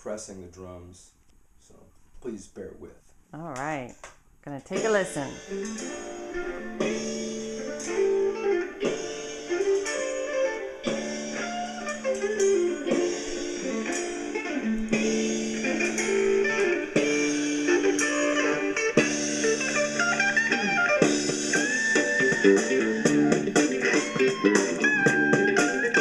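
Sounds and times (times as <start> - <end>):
bass and drums: 4.7 - 26.0
high guitar lead note: 4.7 - 26.0
electric guitar chords: 4.8 - 26.0.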